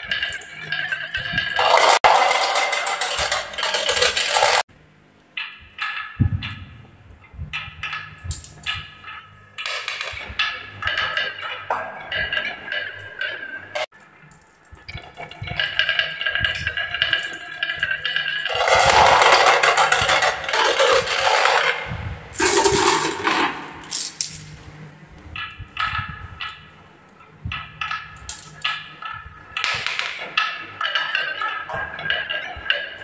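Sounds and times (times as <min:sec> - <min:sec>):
marbles rolling on wooden track: 0:00.0 - 0:04.7, 0:07.5 - 0:24.6, 0:27.6 - 0:33.0.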